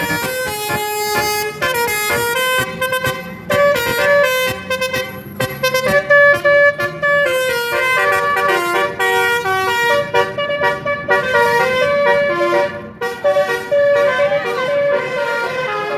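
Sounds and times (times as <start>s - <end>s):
musical horn playing a tune: 0.0s - 15.9s.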